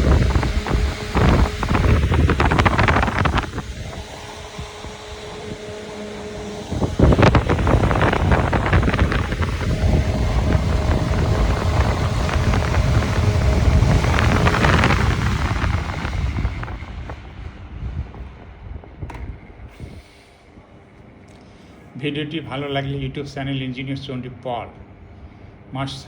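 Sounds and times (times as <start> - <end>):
fan airflow buffeting microphone: 0.0 - 26.0
fan motor hum: 0.0 - 26.0.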